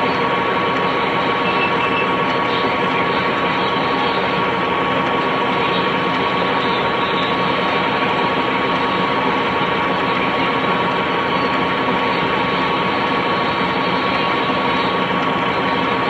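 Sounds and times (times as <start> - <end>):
constant high whine: 0.0 - 16.0
video player mechanical whir: 0.0 - 16.0.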